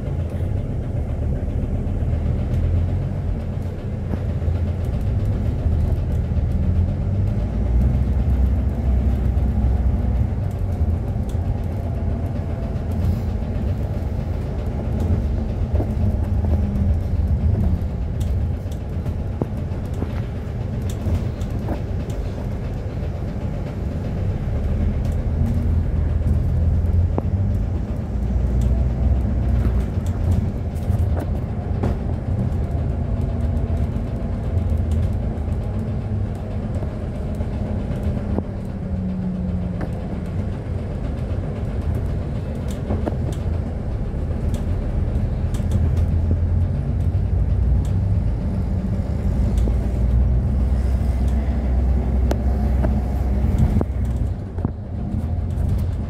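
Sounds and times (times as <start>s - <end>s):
bus interior rumble: 0.0s - 56.0s
rattles and clicks from bus body: 0.0s - 56.0s.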